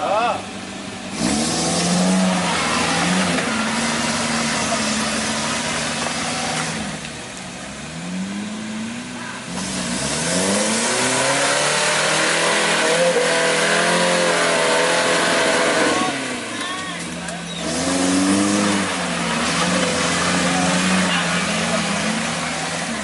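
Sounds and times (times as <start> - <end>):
jeep engine revving: 0.0 - 23.0.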